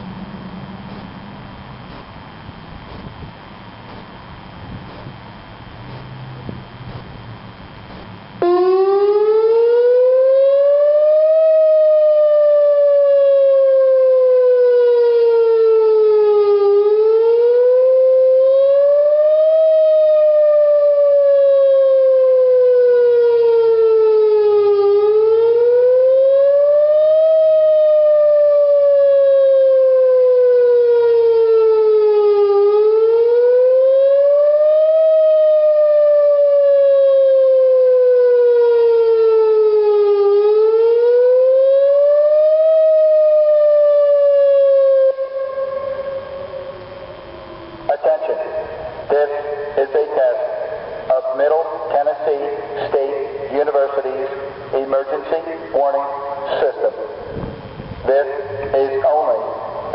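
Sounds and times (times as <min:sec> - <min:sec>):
electronic warning siren wailing: 0:00.0 - 0:59.9.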